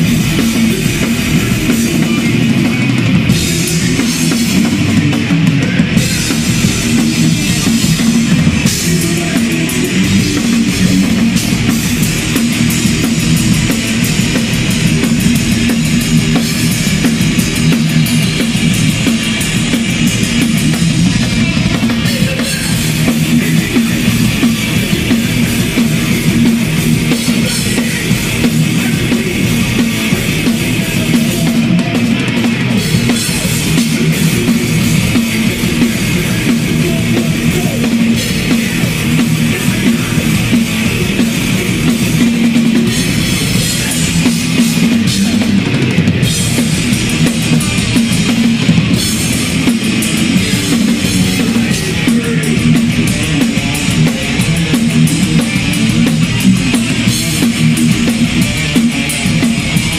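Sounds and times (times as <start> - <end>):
distorted electric guitars: 0.0 - 59.9
drum kit hit hard and fast: 0.0 - 59.9.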